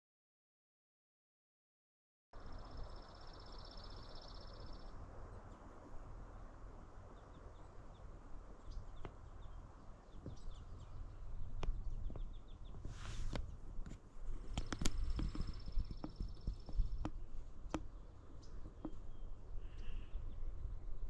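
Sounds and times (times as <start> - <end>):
small birds chirping: 2.4 - 21.0.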